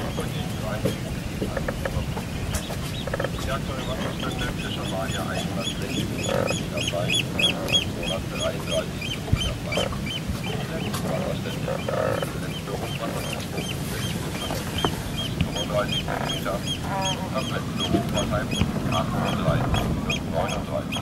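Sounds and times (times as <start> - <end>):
geese honking: 0.0 - 21.0
steady high chirping: 0.0 - 21.0.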